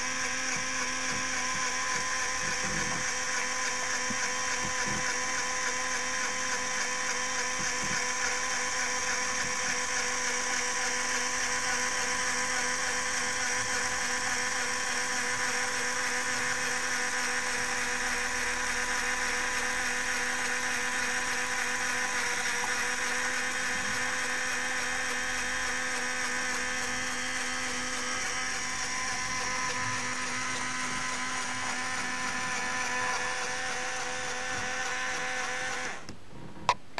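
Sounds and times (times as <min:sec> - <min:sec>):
electric motor whine: 0:00.0 - 0:36.8.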